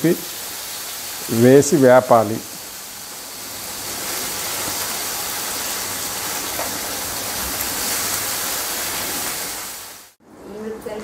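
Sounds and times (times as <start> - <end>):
food sizzling in hot oil: 0.0 - 10.2.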